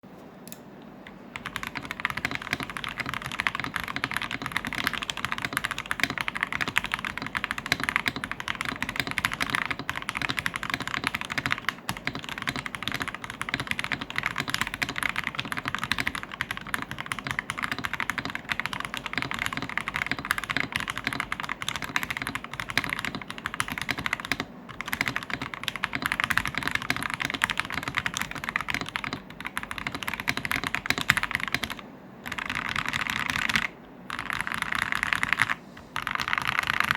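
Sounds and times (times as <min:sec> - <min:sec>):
fast typing on mechanical keyboard: 0:01.3 - 0:36.9.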